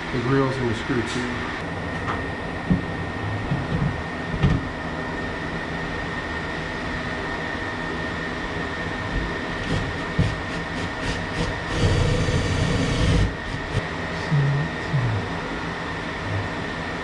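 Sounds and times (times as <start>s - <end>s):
mechanical hum with high whine: 0.0s - 17.0s.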